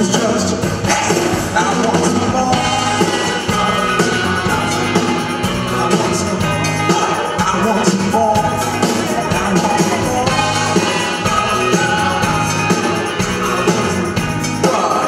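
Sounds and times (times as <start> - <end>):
live soul band playing: 0.0 - 15.0.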